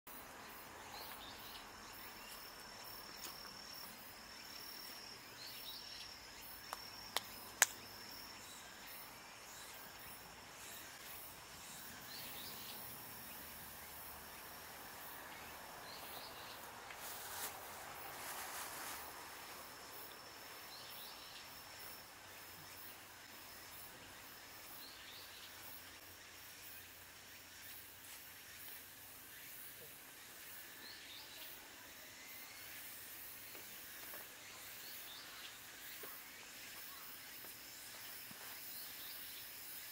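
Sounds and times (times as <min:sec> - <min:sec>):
faint background noise: 0:00.1 - 0:39.9.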